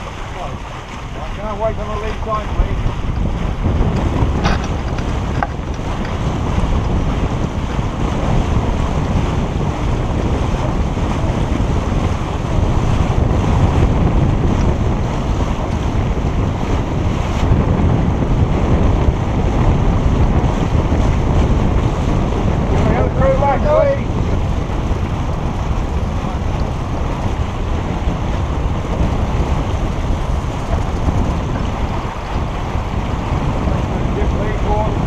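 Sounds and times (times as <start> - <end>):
water rushing along hull: 0.0 - 35.0
wind buffeting microphone: 0.0 - 35.0.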